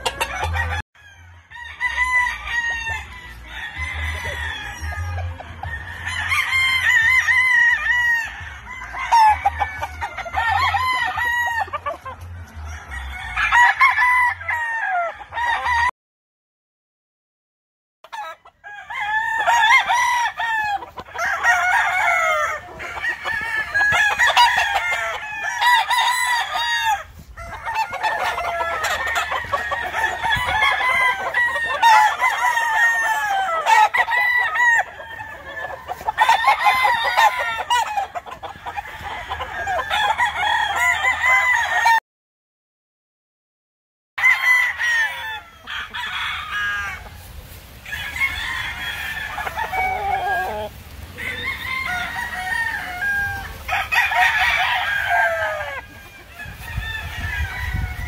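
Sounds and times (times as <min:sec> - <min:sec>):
roosters crowing: 0:00.0 - 0:15.9, 0:18.0 - 0:42.0, 0:44.2 - 0:58.0.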